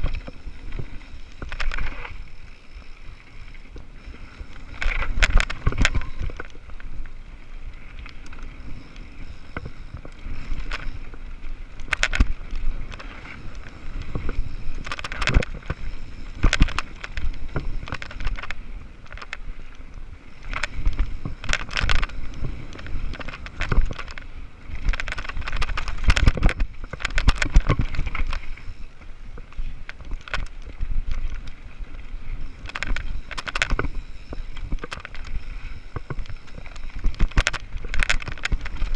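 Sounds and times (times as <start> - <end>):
bike knocking and rattling: 0.0 - 38.9
bike tyre noise on dirt: 0.0 - 38.9
wind rush on microphone: 0.0 - 38.9.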